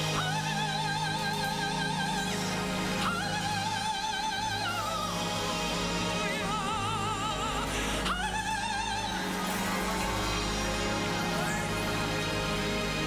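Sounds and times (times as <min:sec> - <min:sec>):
woman singing with vibrato: 0:00.0 - 0:12.2.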